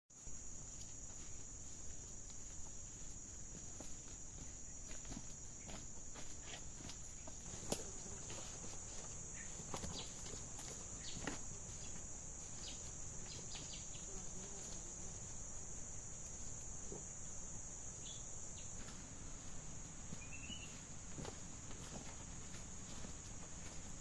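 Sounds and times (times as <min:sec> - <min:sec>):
insects chirping: 0:00.1 - 0:24.0.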